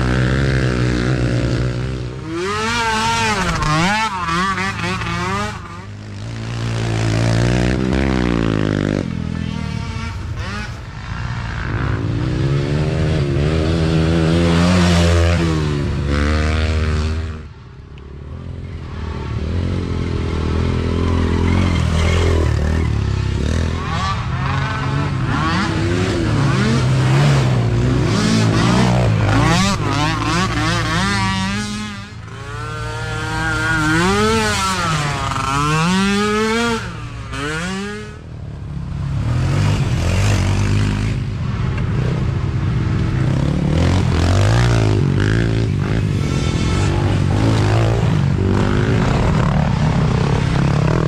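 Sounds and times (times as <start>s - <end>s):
small quad engines revving: 0.0s - 17.6s, 18.3s - 51.0s.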